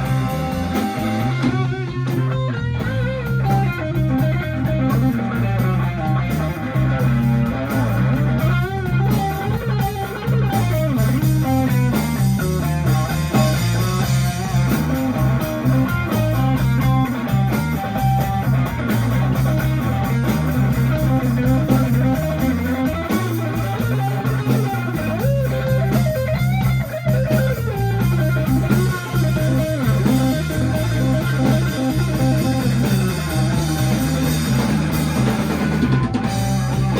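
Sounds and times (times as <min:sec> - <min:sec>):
bass guitar line: 0:00.0 - 0:36.9
electric guitar lead: 0:00.0 - 0:36.9.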